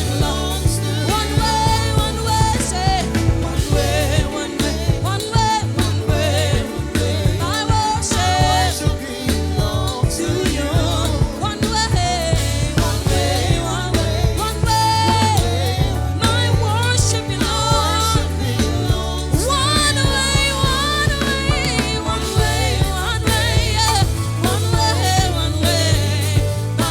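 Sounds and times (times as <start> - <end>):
band with heavy bass: 0.0 - 26.9
person singing: 0.0 - 26.9.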